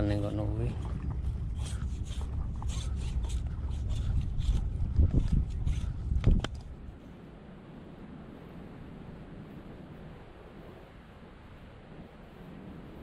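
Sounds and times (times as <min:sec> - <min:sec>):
wind rumble: 0:00.0 - 0:13.0.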